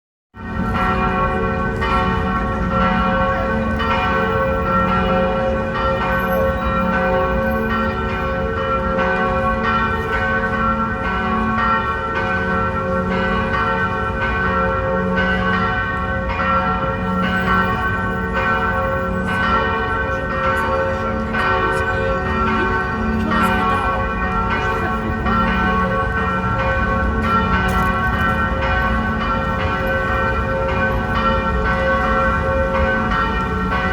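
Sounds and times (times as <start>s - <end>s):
church bells ringing a peal: 0.4s - 33.9s.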